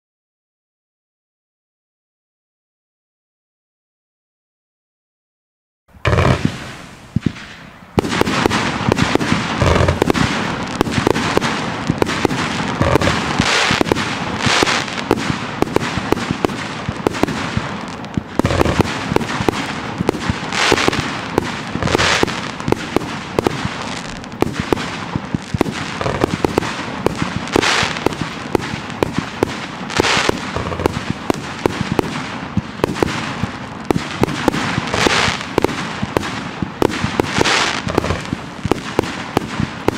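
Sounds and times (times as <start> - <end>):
firework shell bursts and crackle: 5.9 - 39.9
loud firework bang: 6.0 - 39.9.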